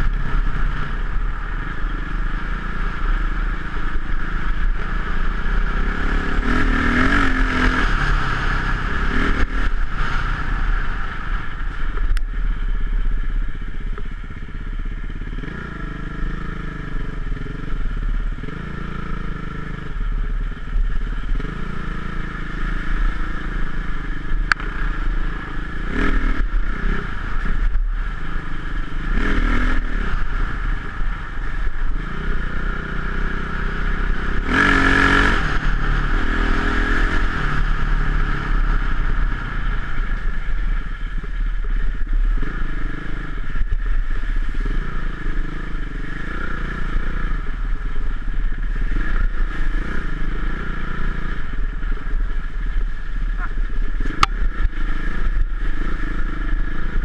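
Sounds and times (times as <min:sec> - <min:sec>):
dirt bike engine revving: 0:00.0 - 0:11.8, 0:21.1 - 0:57.0.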